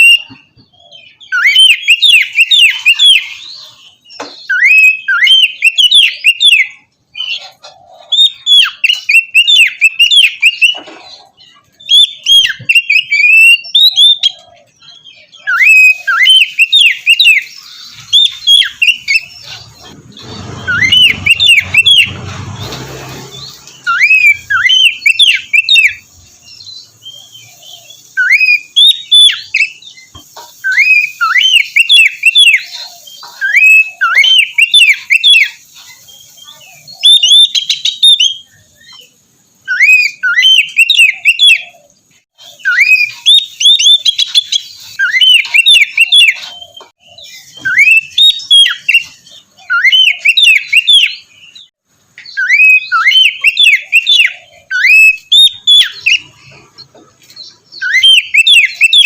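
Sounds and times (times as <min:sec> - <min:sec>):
bird singing whistled notes: 0:00.0 - 0:07.4, 0:08.0 - 0:10.8, 0:11.4 - 0:56.6, 0:57.4 - 0:59.0.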